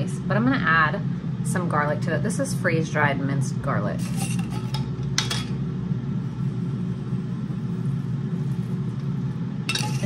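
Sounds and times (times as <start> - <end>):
air fryer humming: 0.0 - 10.0.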